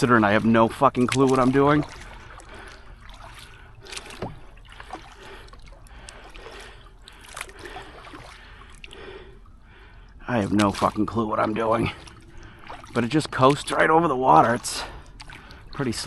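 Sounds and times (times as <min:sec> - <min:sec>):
kayak paddle dipping into water: 0:00.0 - 0:16.0
water dripping off paddle: 0:00.0 - 0:16.0.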